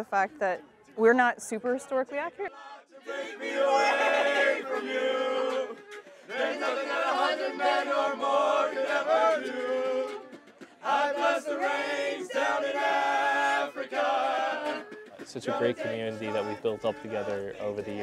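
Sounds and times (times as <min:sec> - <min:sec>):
group of voices singing: 0:01.0 - 0:18.0.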